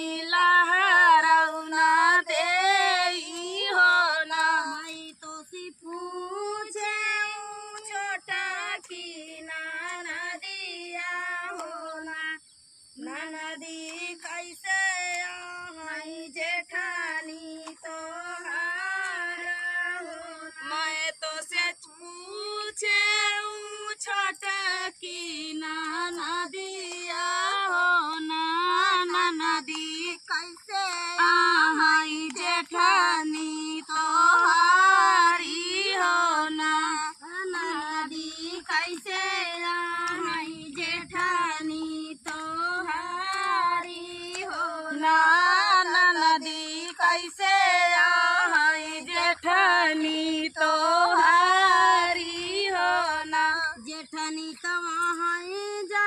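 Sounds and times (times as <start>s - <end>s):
woman singing folk song: 0.0s - 56.0s.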